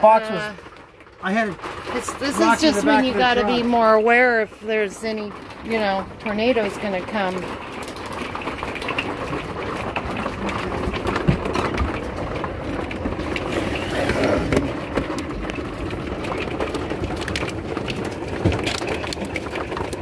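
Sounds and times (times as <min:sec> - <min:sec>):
heavy rain and hail pelting: 0:00.0 - 0:20.0.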